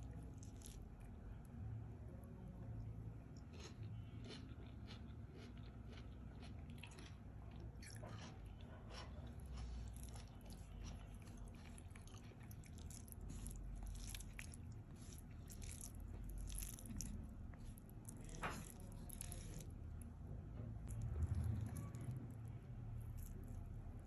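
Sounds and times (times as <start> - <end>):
fingers squishing rice and curry: 0.0 - 1.6, 2.6 - 24.0.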